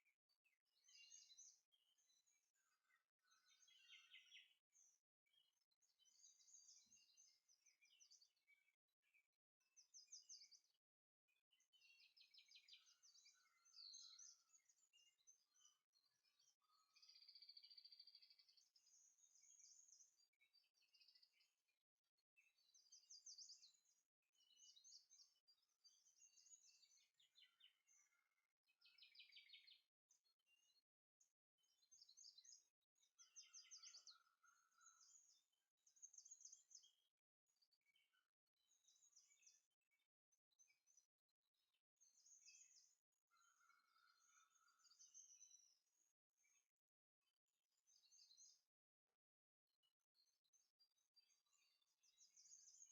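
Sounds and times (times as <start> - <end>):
faint birdsong chirps and trills: 0.0 - 52.9.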